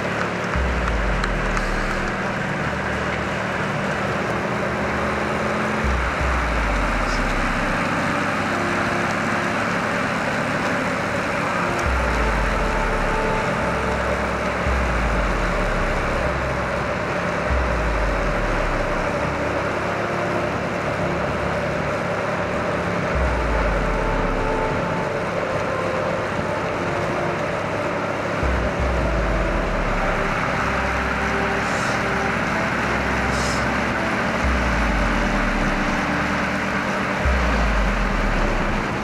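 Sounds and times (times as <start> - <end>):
vehicle driving: 0.0 - 39.0.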